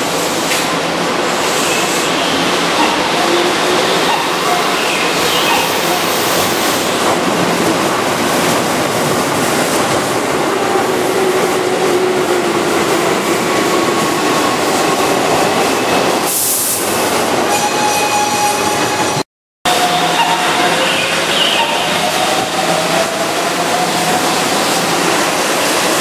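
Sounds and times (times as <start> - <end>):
moving train whine: 0.0 - 26.0.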